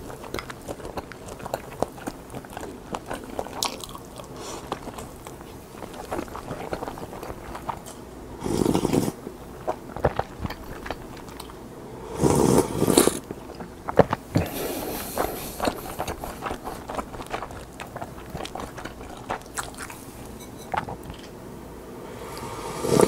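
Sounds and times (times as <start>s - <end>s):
chewing crisp seaweed: 0.0s - 8.0s, 8.6s - 11.6s, 12.8s - 21.3s.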